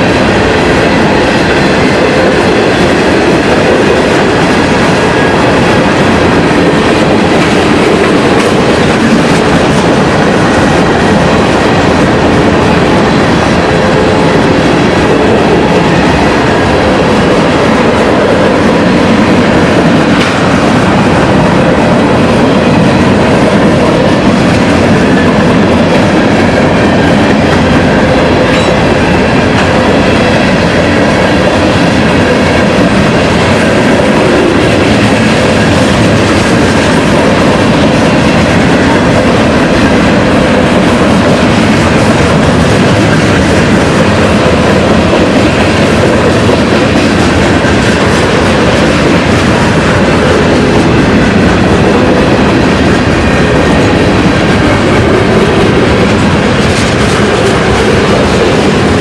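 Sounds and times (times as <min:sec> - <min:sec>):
train wheels on track: 0:00.0 - 0:59.0.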